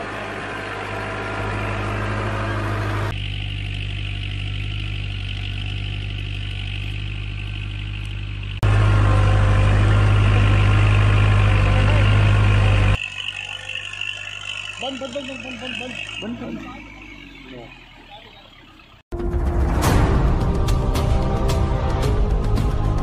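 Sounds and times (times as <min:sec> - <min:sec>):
tractor diesel engine under load: 0:00.0 - 0:19.1.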